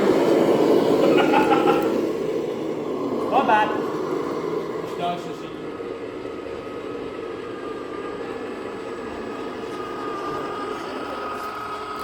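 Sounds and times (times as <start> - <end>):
mechanical hum: 0.0 - 12.0
model truck motor whine: 0.0 - 12.0.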